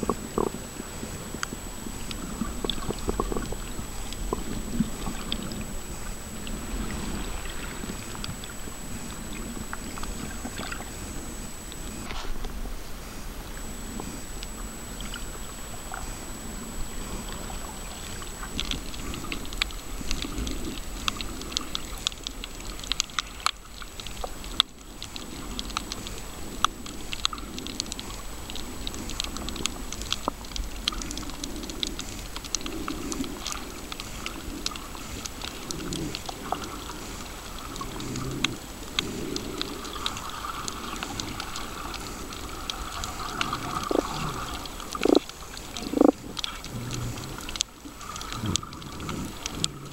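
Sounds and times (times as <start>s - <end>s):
muffled underwater sloshing: 0.0s - 49.9s
sharp underwater clicks and crackles: 0.0s - 49.9s.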